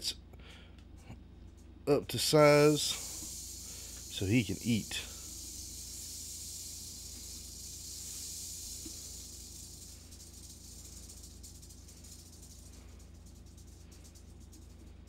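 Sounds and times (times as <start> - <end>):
rattlesnake rattle buzzing: 2.1 - 15.0.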